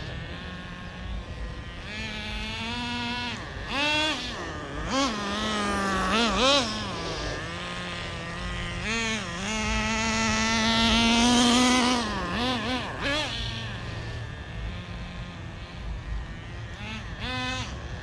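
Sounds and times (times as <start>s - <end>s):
small nitro engine revving: 0.0s - 18.0s.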